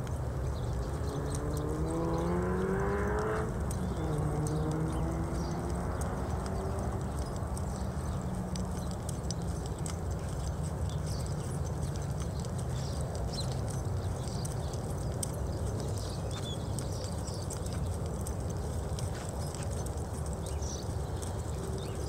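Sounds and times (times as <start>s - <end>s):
horse hoofbeats on dirt: 0.0s - 22.0s.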